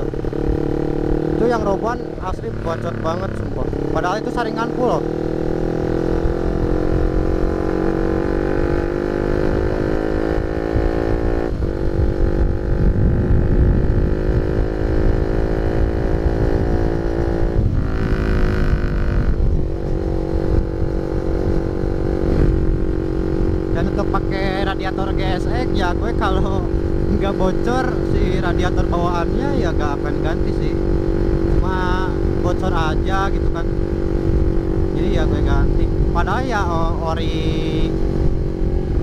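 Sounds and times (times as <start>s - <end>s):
motorcycle engine running: 0.0s - 39.0s
wind rumbling on microphone: 0.0s - 39.0s.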